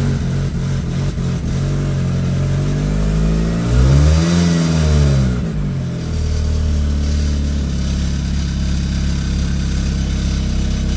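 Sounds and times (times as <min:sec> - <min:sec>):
car engine revving and idling: 0:00.0 - 0:10.9.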